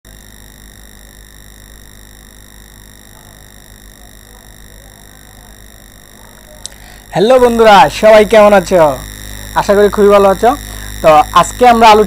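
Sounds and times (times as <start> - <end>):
high-pitched electrical whines: 0.0 - 12.0
low mains hum: 0.0 - 12.0
electrical hiss: 0.1 - 12.0.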